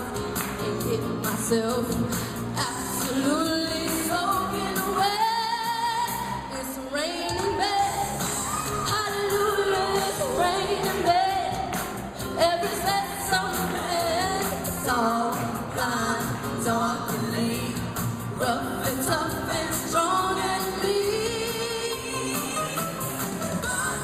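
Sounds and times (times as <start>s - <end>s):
person singing: 0.0s - 24.0s
pop backing track: 0.0s - 24.0s.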